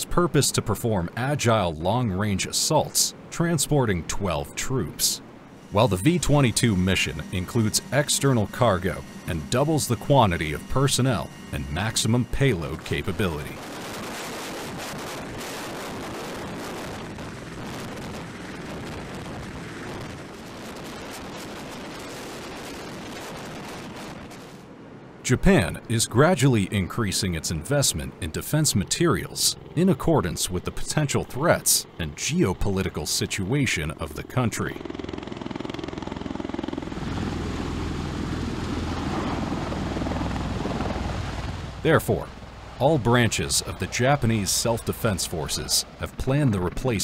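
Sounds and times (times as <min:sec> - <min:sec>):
aircraft engines droning: 0:00.0 - 0:47.0
helicopter rotor noise hovering: 0:00.0 - 0:47.0.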